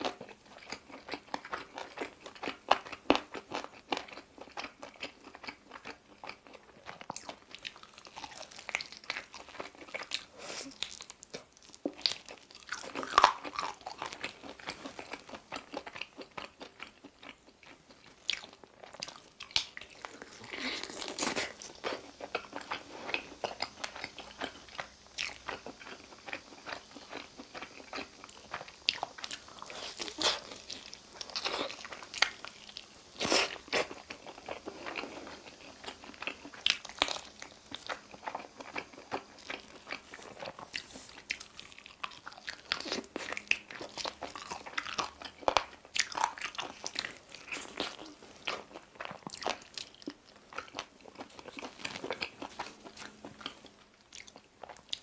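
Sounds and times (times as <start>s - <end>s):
crunching and chewing food: 0.0s - 55.0s.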